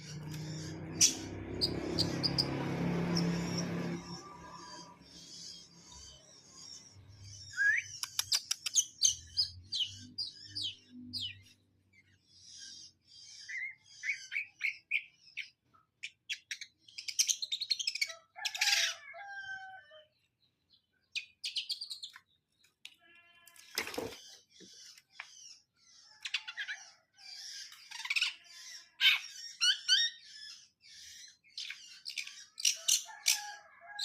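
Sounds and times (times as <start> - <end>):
bird singing chirps and trills: 0.0 - 19.8, 20.4 - 33.2.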